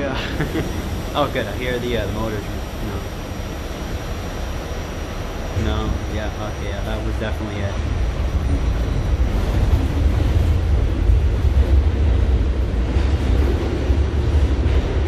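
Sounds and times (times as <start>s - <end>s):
subway car rumbling on track: 0.0s - 15.0s.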